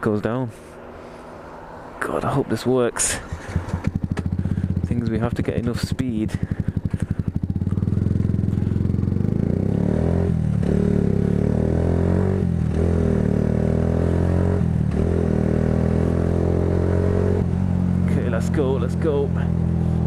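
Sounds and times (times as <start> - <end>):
motorcycle engine accelerating: 0.6 - 20.0.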